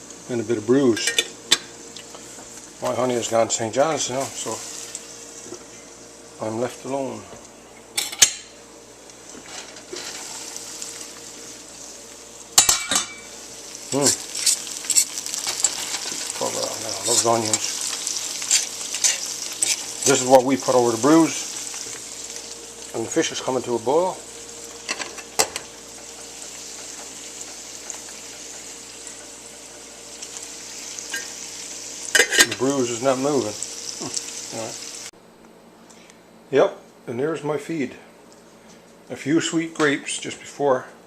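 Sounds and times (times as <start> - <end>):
food sizzling in a pan: 0.0 - 35.1.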